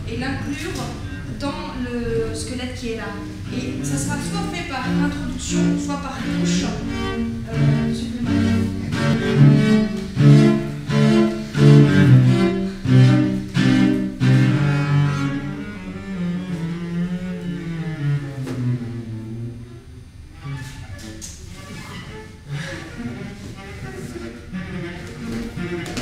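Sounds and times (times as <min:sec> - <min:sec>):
cello playing: 0:02.9 - 0:26.0.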